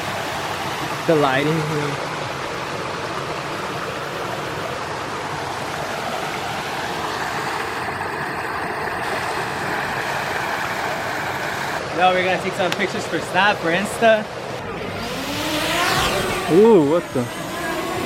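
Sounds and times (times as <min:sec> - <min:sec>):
waterfall rushing: 0:00.0 - 0:17.3.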